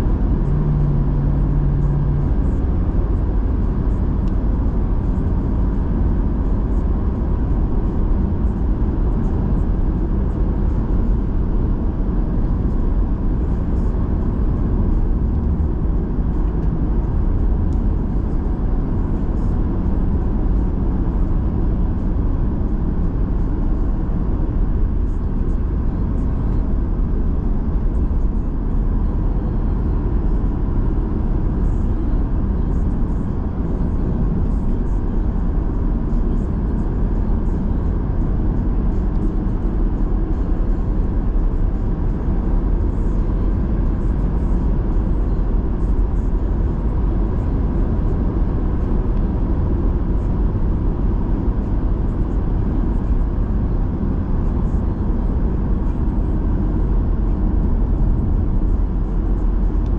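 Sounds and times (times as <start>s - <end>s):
tyre and engine road rumble: 0.0s - 59.9s.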